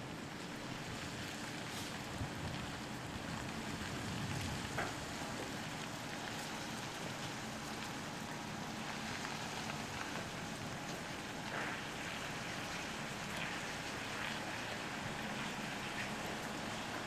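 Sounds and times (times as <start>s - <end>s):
diesel lorry engine hum: 0.0s - 17.0s.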